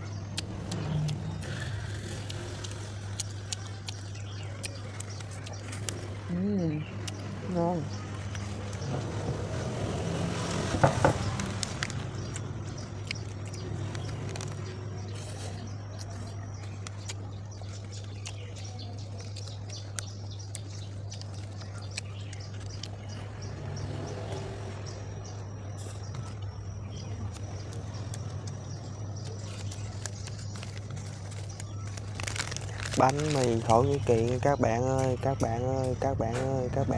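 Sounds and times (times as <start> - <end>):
chewing and crunching bread: 0.0 - 6.3, 6.9 - 36.4
steady low hum: 0.0 - 36.9.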